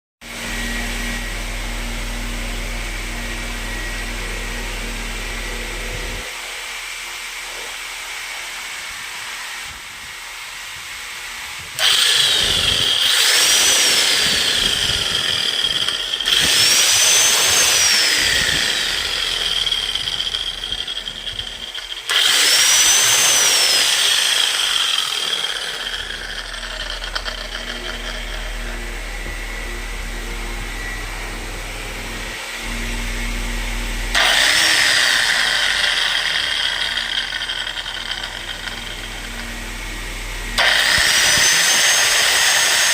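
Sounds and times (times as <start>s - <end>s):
demolition hammer motor whine: 0.3s - 42.9s.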